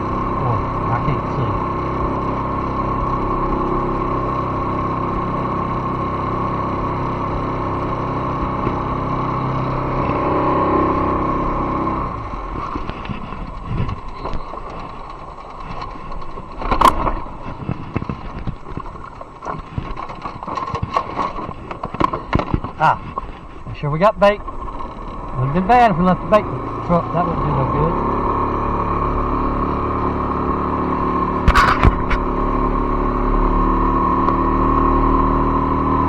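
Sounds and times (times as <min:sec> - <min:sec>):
boat motor running: 0:00.0 - 0:36.0.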